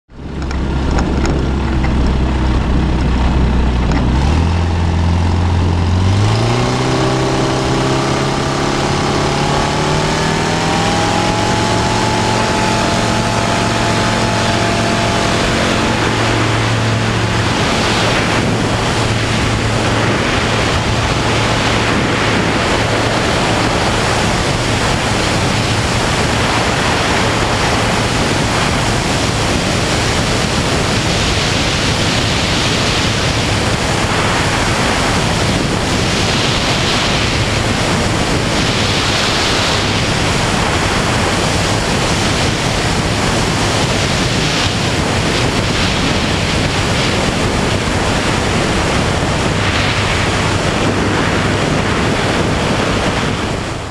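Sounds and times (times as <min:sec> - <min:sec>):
propeller aircraft engine: 0:00.0 - 0:53.9
wind rushing over camera: 0:00.1 - 0:53.9.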